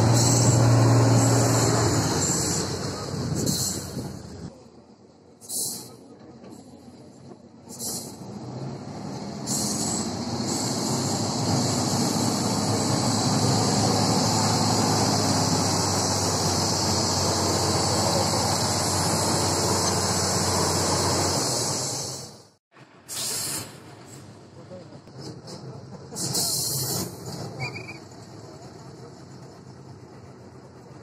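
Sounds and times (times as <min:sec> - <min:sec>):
truck diesel engine under load: 0:00.0 - 0:31.0.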